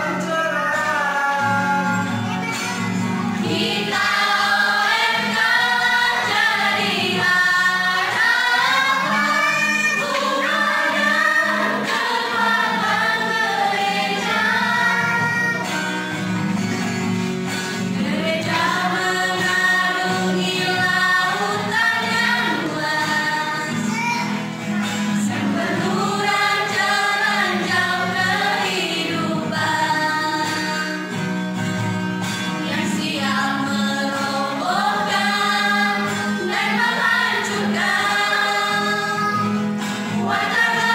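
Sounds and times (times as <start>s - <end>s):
youth choir singing a hymn: 3.4s - 15.9s, 17.8s - 24.0s, 24.8s - 31.4s, 32.4s - 40.9s.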